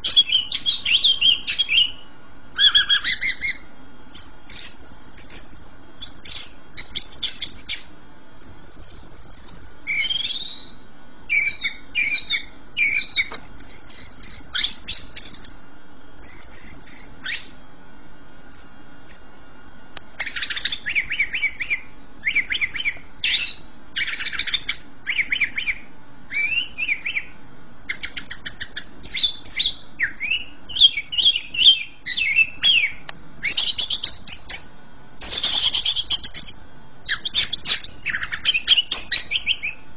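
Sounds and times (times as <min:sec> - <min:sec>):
bird singing trills and chirps: 0:00.0 - 0:17.6, 0:18.5 - 0:19.4, 0:20.2 - 0:39.9
clear bird whistle: 0:00.0 - 0:17.6, 0:18.5 - 0:19.4, 0:20.2 - 0:39.8.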